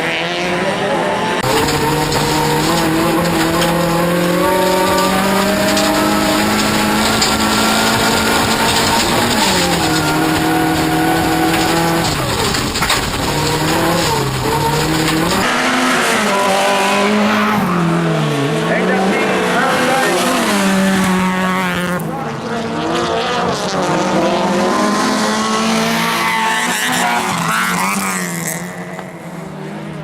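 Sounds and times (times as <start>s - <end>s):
race car engine revving: 0.0s - 30.0s
tyres skidding: 0.0s - 30.0s.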